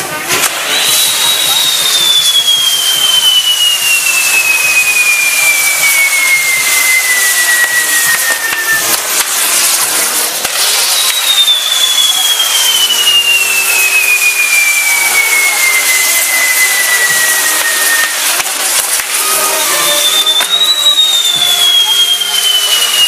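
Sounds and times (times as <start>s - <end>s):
falling whistle of fireworks: 0.0s - 23.0s
fireworks hissing and crackling: 0.0s - 23.0s.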